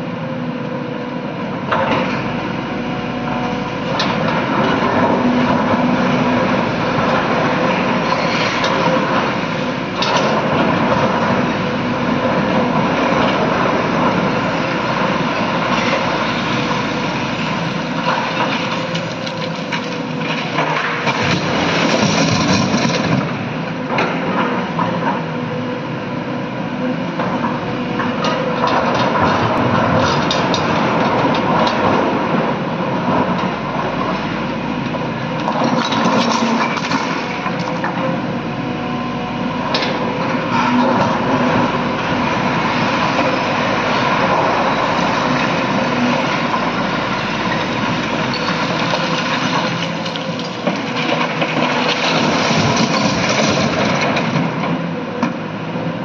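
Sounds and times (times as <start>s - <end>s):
excavator diesel engine under load: 0.0s - 56.0s.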